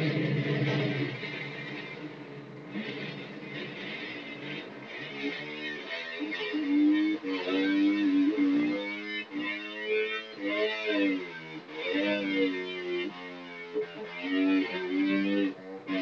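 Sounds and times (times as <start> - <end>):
guitar with sliding bending notes: 0.0 - 16.0.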